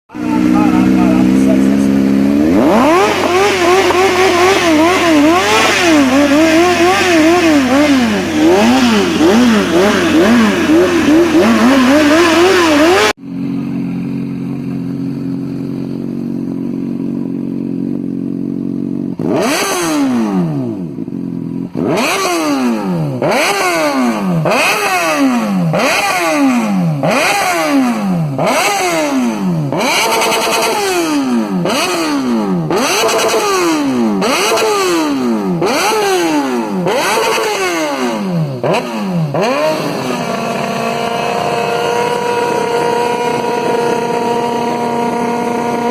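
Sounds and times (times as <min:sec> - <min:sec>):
motorcycle engine revving: 0:00.1 - 0:45.9.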